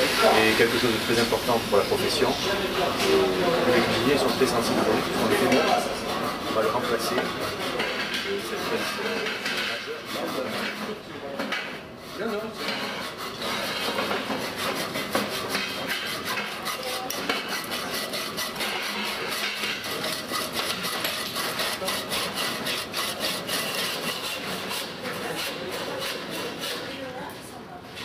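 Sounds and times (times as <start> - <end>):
metal scraping on cast iron: 0.2 - 27.3.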